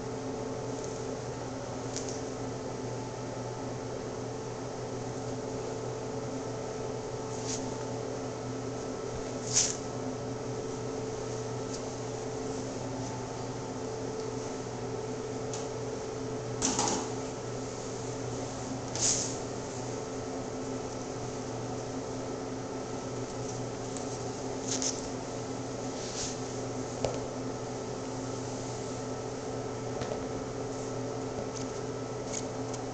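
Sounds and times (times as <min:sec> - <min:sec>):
steady mechanical hum: 0:00.0 - 0:32.9.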